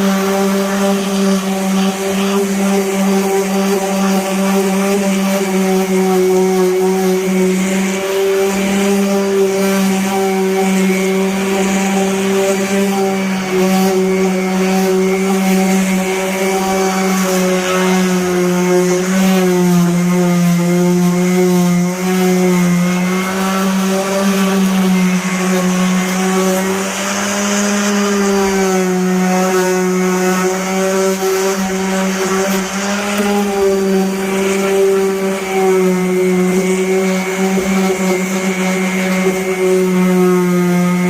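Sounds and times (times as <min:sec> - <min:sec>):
sander motor whine: 0:00.0 - 0:41.0
sanding disc hissing on paint: 0:00.0 - 0:41.0.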